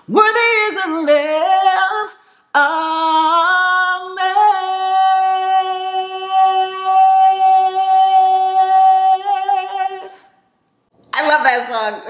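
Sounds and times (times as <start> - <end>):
woman singing unaccompanied: 0.0 - 10.4.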